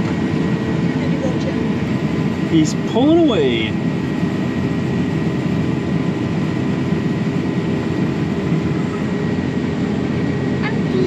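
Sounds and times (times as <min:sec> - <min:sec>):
combine harvester drone: 0:00.0 - 0:11.0.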